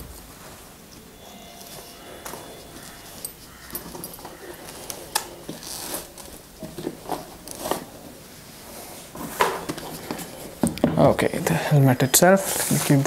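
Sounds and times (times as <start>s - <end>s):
fabric rustling and scraping: 0.0s - 10.6s.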